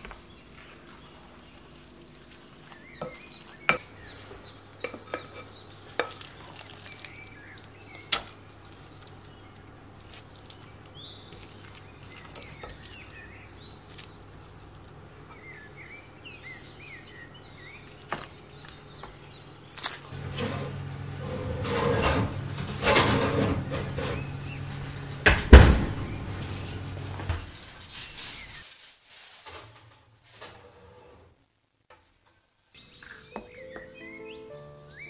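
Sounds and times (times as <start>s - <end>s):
faint birds chirping: 0.0s - 28.8s, 32.6s - 35.0s.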